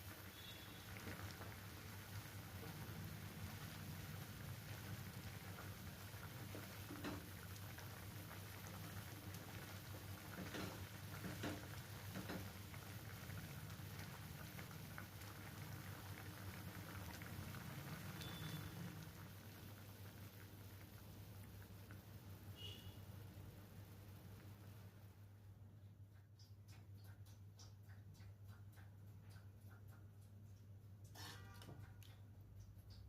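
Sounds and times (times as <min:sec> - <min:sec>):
chutney crackling and bubbling: 0:00.0 - 0:33.0.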